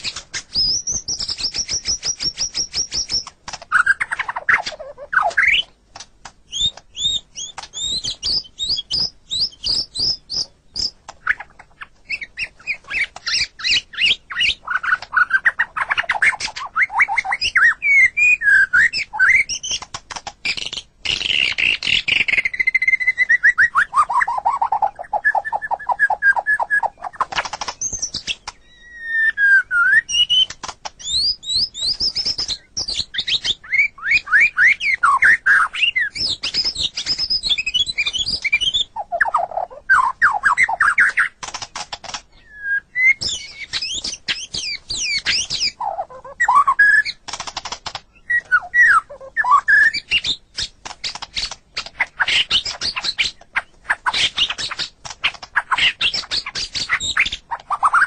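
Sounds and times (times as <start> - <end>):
bird singing whistled trills: 0.0 - 5.7, 6.5 - 19.8, 20.4 - 41.4, 42.3 - 47.2, 48.1 - 54.9.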